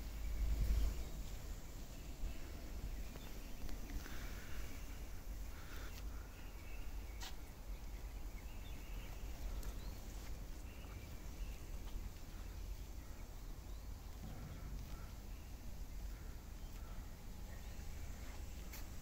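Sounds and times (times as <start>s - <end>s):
bird chirps: 0.0s - 19.0s
low steady rumble: 0.0s - 19.0s.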